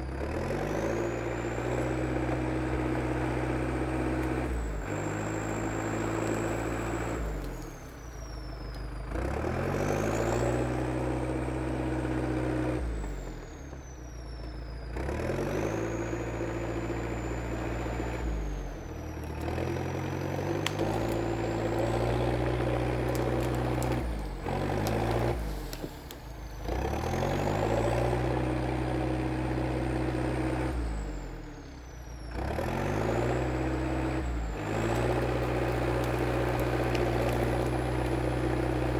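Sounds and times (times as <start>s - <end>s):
dozer diesel engine running hard: 0.0s - 38.9s
high engine whine: 0.0s - 38.9s.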